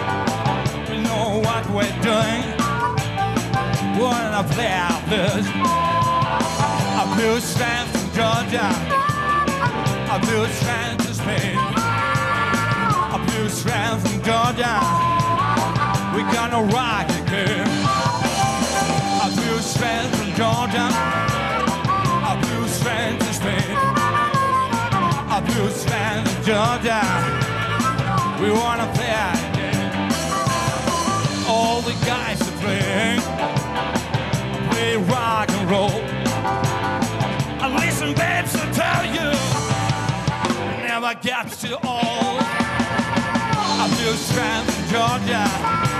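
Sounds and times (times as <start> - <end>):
electric guitar lead with bends: 0.0 - 40.8, 42.0 - 45.9
blues-rock band playing: 0.0 - 45.9.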